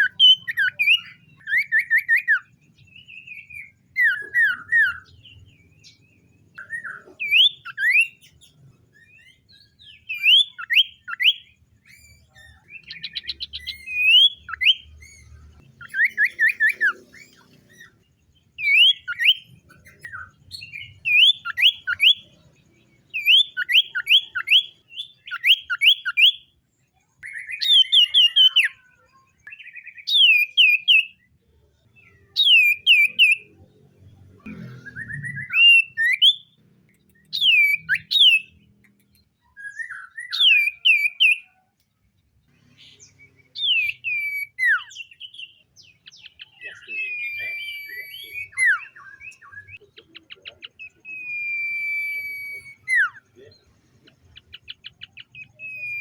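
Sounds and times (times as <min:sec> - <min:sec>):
bird whistling phrases: 0:00.0 - 0:05.2, 0:06.6 - 0:08.4, 0:09.0 - 0:18.0, 0:18.6 - 0:22.3, 0:23.2 - 0:26.4, 0:27.2 - 0:31.2, 0:32.0 - 0:33.5, 0:35.0 - 0:36.5, 0:37.2 - 0:38.6, 0:39.4 - 0:41.6, 0:43.6 - 0:53.5, 0:54.3 - 0:56.0.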